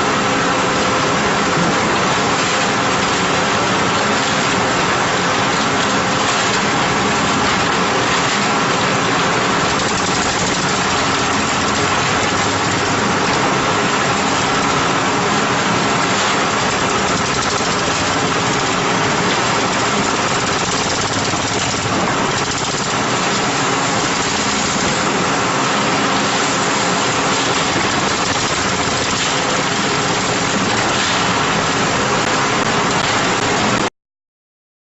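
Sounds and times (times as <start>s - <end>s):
concrete mixer running: 0.0s - 33.9s.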